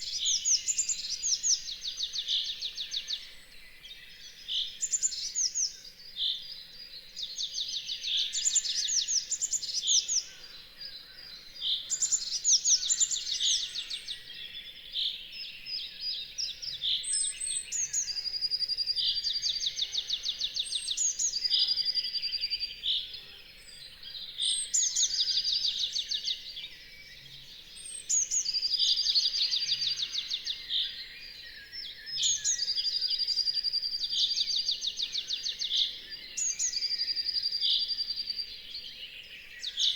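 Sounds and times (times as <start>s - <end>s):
songbirds singing high trills: 0.0s - 39.9s.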